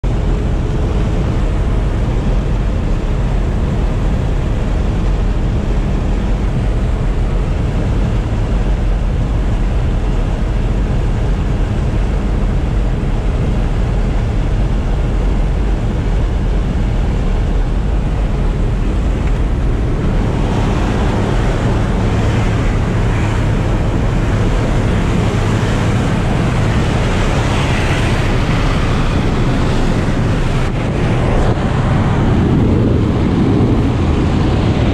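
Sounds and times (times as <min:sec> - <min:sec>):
airplane engines droning: 0:00.0 - 0:34.9
hissy rush of wind: 0:00.0 - 0:34.9
wind noise on microphone: 0:00.0 - 0:34.9.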